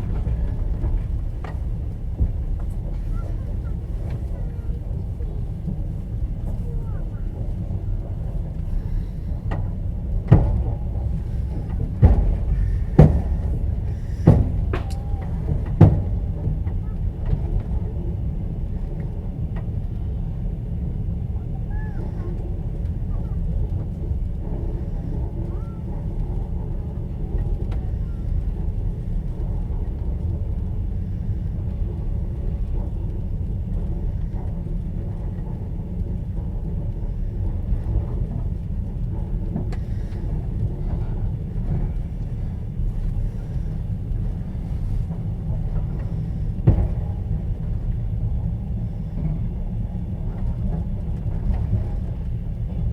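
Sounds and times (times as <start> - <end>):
train wheels on rails: 0.0 - 52.9.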